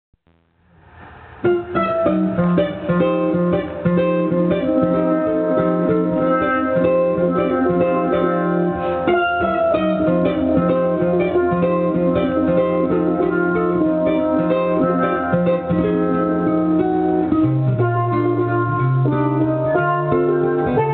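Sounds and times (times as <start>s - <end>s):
steel pans melody: 1.4s - 20.9s.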